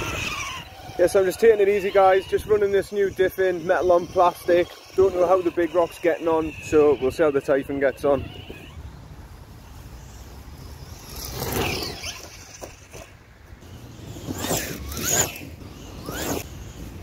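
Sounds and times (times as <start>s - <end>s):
electric motor whining: 0.0s - 9.0s, 9.6s - 17.0s.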